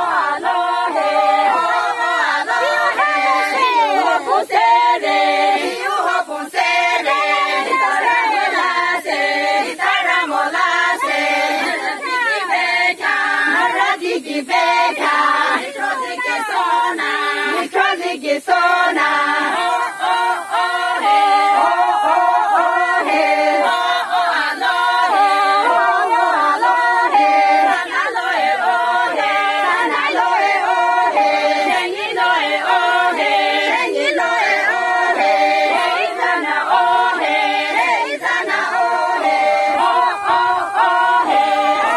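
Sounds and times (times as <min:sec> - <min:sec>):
women singing unaccompanied: 0:00.0 - 0:41.9.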